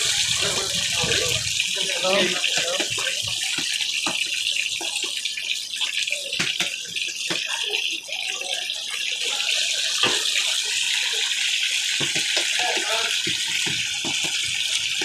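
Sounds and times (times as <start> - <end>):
oil popping and crackling: 0.0 - 15.0
oil sizzling: 0.0 - 15.0.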